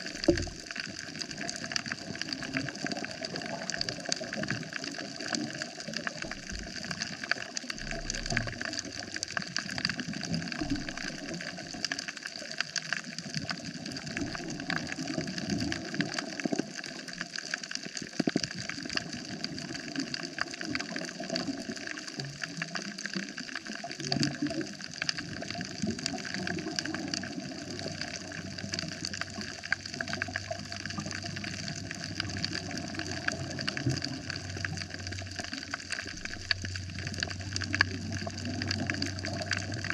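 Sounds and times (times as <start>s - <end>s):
crackle of tiny clicks underwater: 0.0s - 39.9s
low gurgling rumbles: 0.0s - 39.9s
rushing water: 0.0s - 39.9s.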